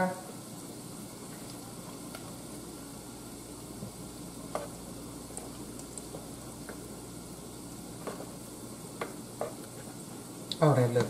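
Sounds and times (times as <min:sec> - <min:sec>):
sauce sizzling: 0:00.0 - 0:10.6.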